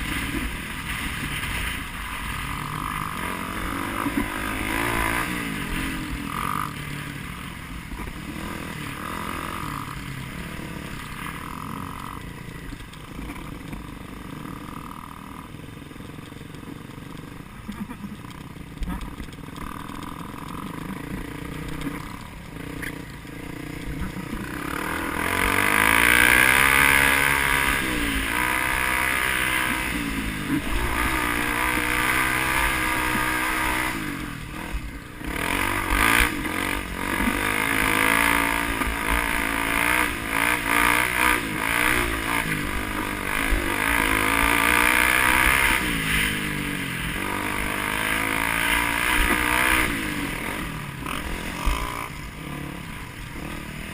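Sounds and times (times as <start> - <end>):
vehicle engine revving: 0.0 - 15.5, 18.8 - 53.9.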